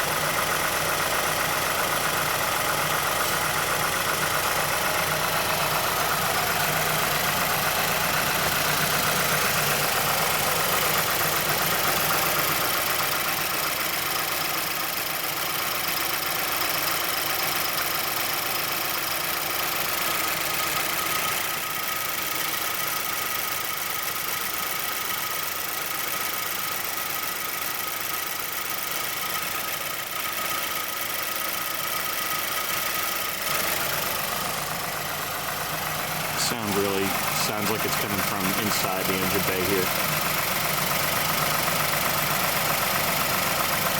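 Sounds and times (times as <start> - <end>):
car engine idling: 0.0 - 43.9
rapid clicking from engine: 0.0 - 43.9.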